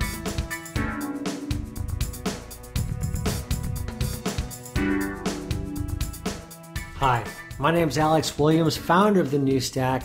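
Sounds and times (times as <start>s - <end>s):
theme music with drum beat: 0.0s - 10.0s.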